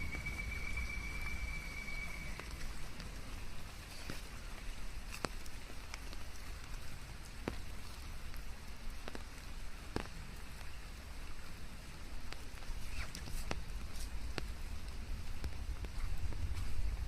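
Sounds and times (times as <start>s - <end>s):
steady rain in a forest: 0.0s - 17.0s.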